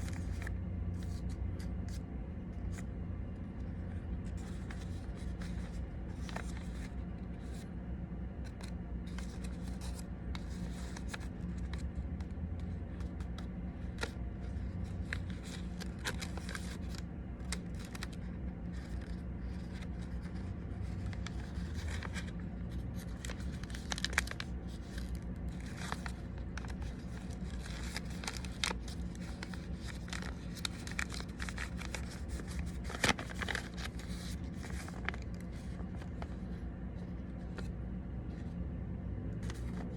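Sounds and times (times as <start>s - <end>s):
paper being folded and creased: 0.0s - 7.7s, 8.4s - 38.5s, 39.4s - 39.9s
steady low hum: 0.0s - 39.9s.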